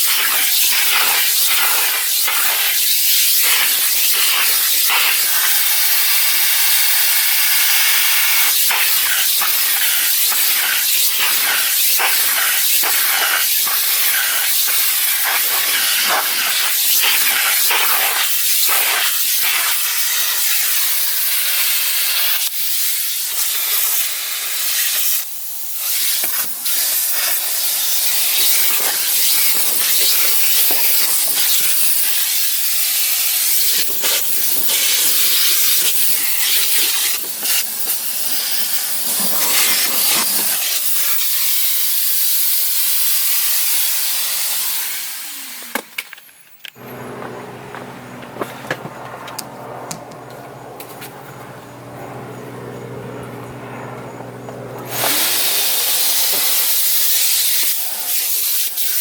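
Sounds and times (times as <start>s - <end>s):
vacuum cleaner running: 0.0s - 22.2s, 26.2s - 41.5s, 42.6s - 46.1s, 46.8s - 58.1s.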